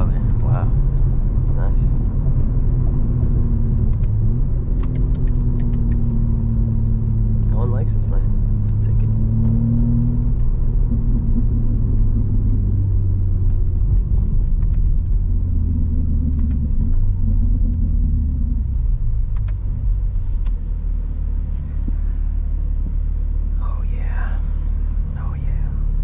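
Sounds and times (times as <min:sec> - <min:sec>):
low exhaust drone: 0:00.0 - 0:26.0
road rumble: 0:00.0 - 0:26.0.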